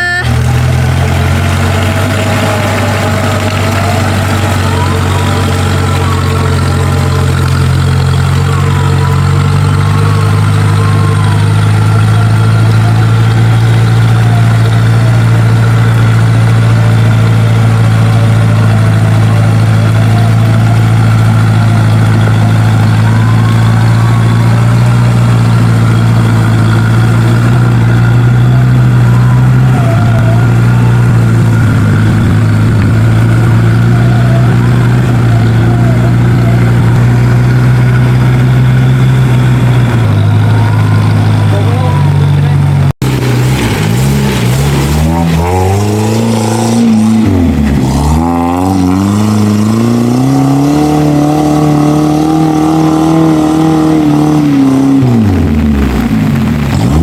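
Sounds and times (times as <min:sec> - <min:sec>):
off-road vehicle engine droning: 0:00.0 - 0:57.0.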